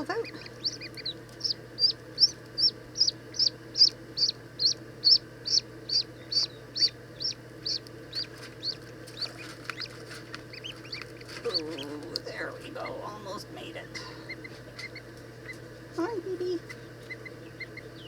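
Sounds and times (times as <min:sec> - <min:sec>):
ducklings peeping: 0:00.0 - 0:18.0
faint low hum: 0:00.0 - 0:18.0.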